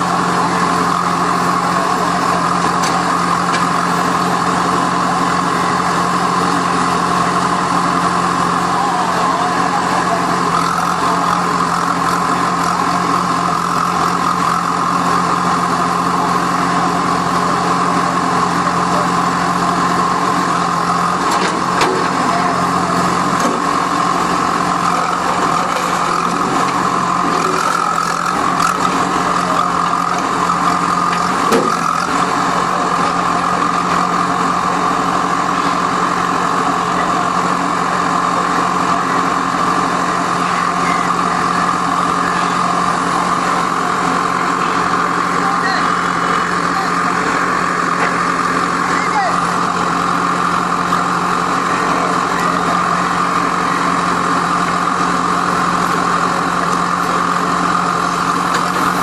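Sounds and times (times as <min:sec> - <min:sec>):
construction machinery diesel engines: 0:00.0 - 0:59.0.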